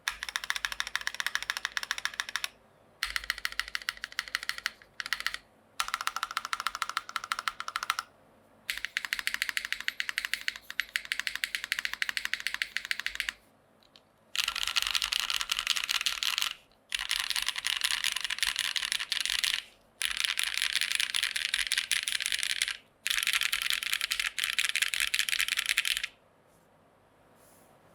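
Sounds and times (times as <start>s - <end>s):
fast typing on mechanical keyboard: 0.0s - 8.1s, 8.7s - 13.4s, 14.4s - 26.2s.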